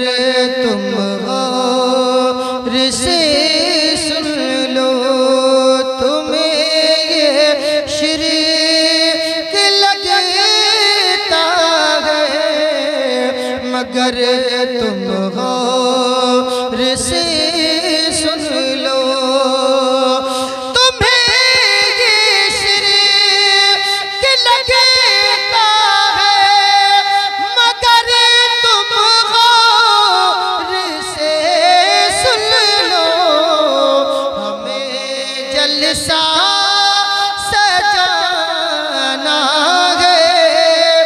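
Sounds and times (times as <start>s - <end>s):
man singing into microphone: 0.0s - 41.0s.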